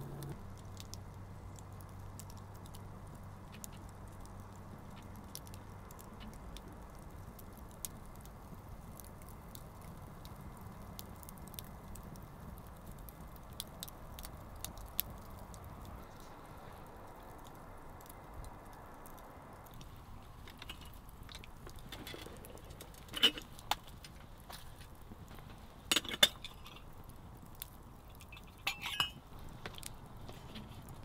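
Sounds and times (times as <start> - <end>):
campfire pops and snaps: 0.0 - 31.0
low rumble of burning flames: 0.0 - 31.0.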